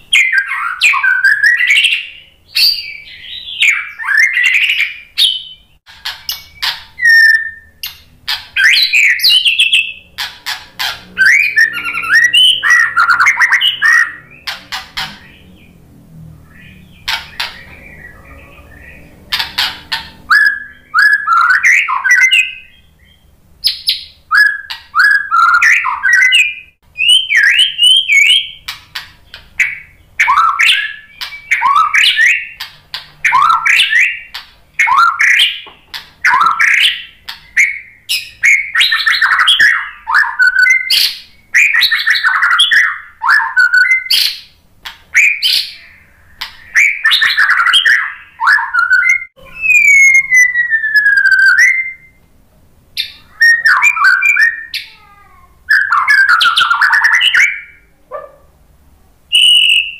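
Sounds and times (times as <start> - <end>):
bird singing whistled phrases: 0.0 - 8.0, 8.6 - 10.1, 11.0 - 15.5, 16.5 - 28.7, 29.6 - 32.6, 33.2 - 44.4, 45.1 - 52.2, 53.0 - 55.0, 55.7 - 58.2, 59.3 - 59.9.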